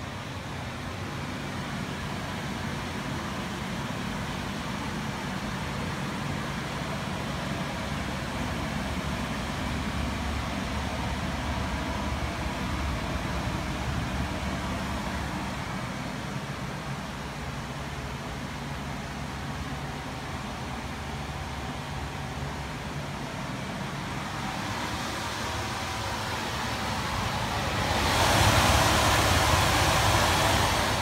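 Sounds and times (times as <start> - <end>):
furnace blower fan humming: 0.0 - 31.0.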